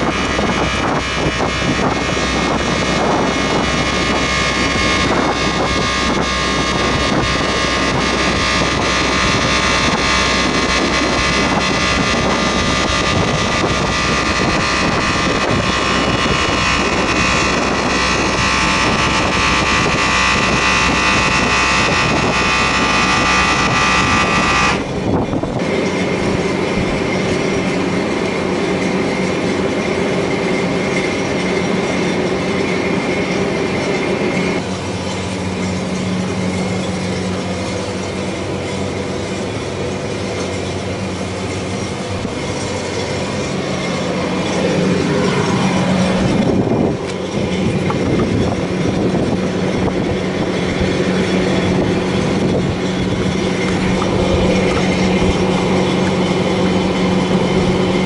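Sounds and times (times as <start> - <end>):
many-toned whine: 0.0 - 58.0
mechanical drone: 0.0 - 58.0.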